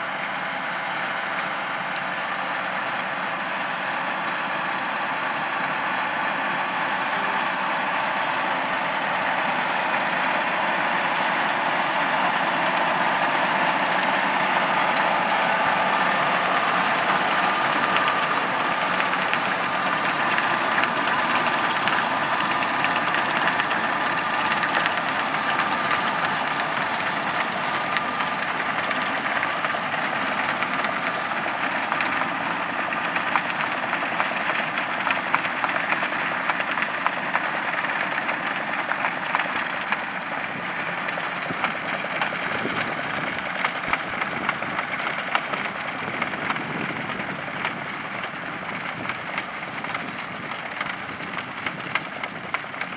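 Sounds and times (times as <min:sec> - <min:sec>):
tractor and spreader rumbling: 0:00.0 - 0:52.9.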